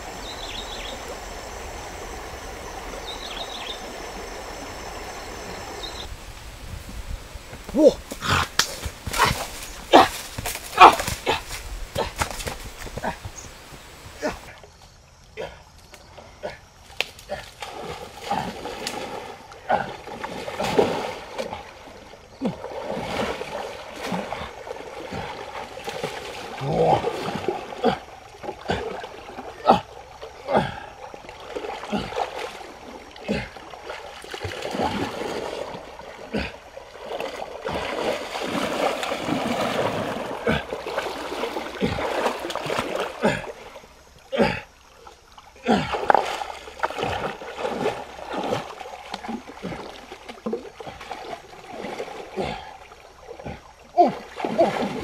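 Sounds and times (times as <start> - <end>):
stream water rushing: 0.0 - 14.6, 17.6 - 55.0
splashing in shallow water: 0.0 - 55.0.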